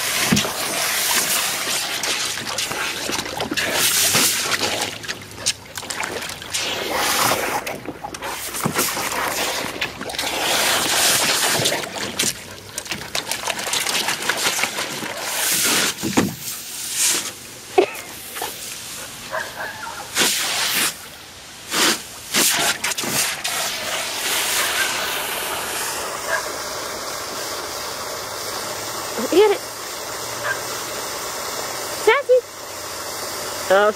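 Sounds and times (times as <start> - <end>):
garden hose spraying water: 0.0 - 33.9.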